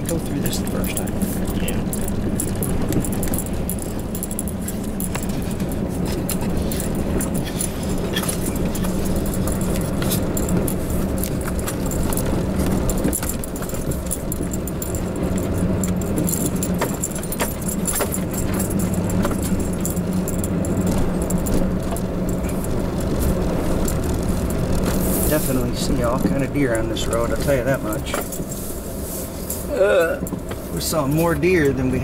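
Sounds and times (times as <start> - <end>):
cab rattles and jangling clicks: 0.0 - 32.0
vehicle engine and road hum: 0.0 - 32.0.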